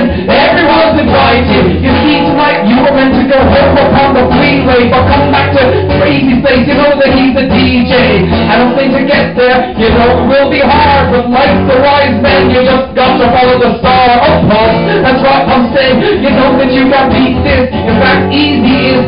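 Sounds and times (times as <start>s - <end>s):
loud live music with beat: 0.0s - 19.0s
man singing into microphone: 0.0s - 19.0s.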